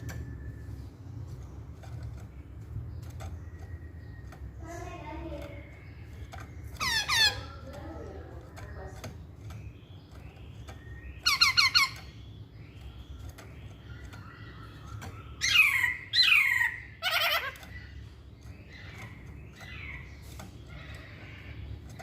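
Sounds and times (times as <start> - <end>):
bird singing notes: 0.0 - 22.0
soft bird calls: 0.0 - 22.0.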